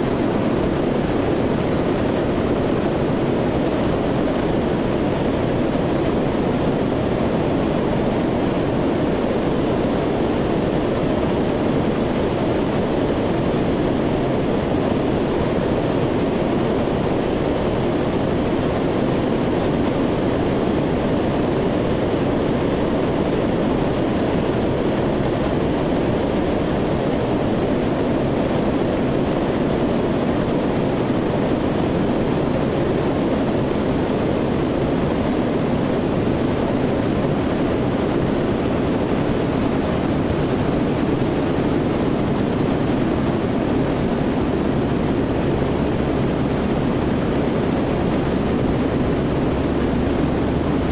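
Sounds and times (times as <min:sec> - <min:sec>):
turboprop engines in cabin: 0:00.0 - 0:50.9.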